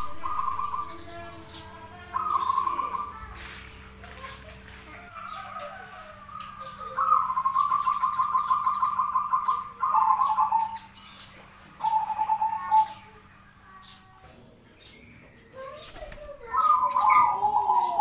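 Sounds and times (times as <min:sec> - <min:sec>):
dove cooing trill: 0:00.0 - 0:13.3, 0:15.6 - 0:18.0.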